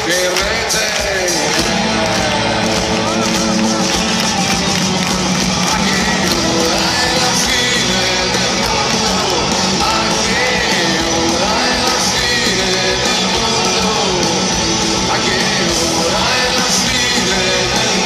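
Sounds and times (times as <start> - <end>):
man singing lead vocals: 0.0 - 3.2, 5.6 - 18.0
live rock band playing: 0.0 - 18.0.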